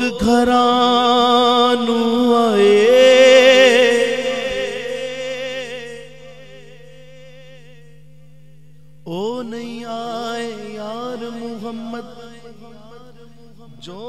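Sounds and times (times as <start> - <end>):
man singing with vibrato: 0.0 - 7.9, 9.1 - 14.0.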